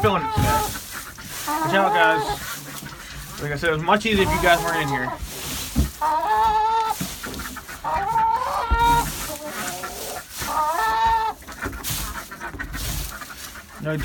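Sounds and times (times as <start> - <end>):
hens clucking: 0.0 - 14.0
hens squawking: 0.0 - 14.0.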